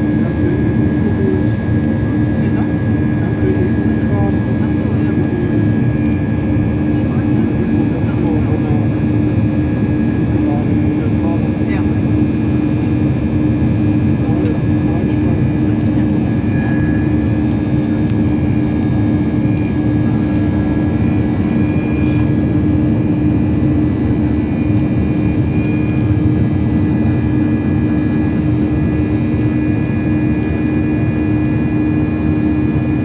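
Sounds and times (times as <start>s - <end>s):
constant low hum: 0.0s - 33.0s
jet engines droning: 0.0s - 33.0s.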